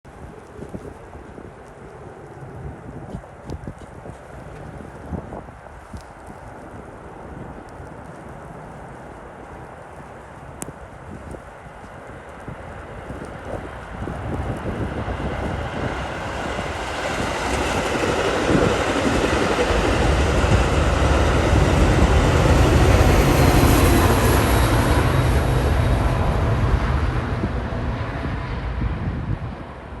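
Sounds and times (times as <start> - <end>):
train wheels rumbling on rails: 0.4 - 30.0.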